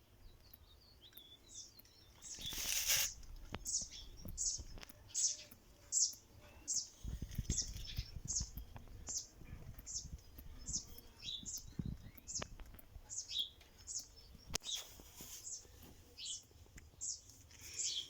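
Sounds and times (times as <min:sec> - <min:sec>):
small bird chirping: 0:00.0 - 0:18.0.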